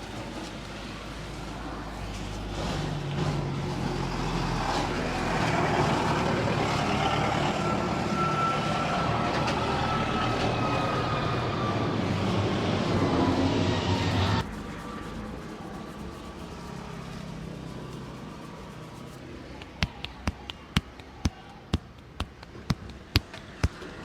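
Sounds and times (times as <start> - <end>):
road traffic rumble: 0.1 - 24.0.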